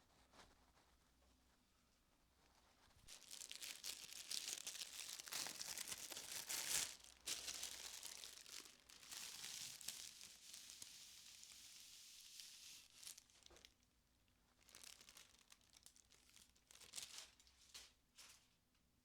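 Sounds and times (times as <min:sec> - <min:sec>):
material crinkling and rustling: 0:02.2 - 0:18.7.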